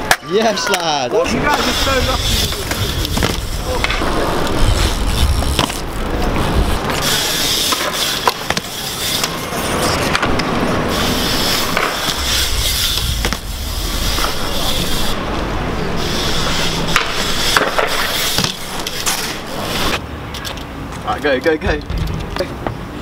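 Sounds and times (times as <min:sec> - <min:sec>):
wheels rolling over rough pavement: 0:00.0 - 0:22.4.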